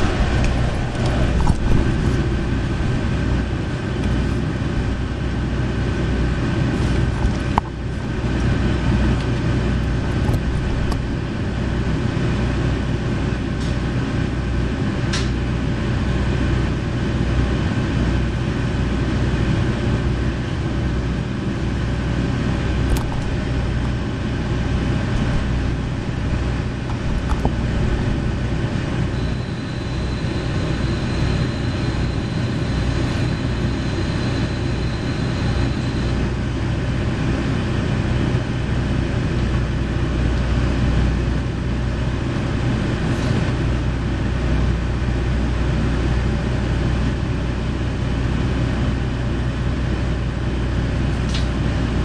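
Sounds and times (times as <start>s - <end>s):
diesel railcar engine running: 0.0s - 52.0s.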